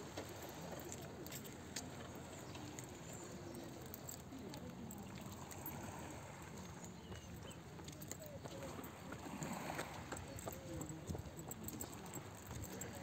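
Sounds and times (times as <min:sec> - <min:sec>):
small waves lapping: 0:00.0 - 0:13.0
distant voices: 0:00.4 - 0:13.0.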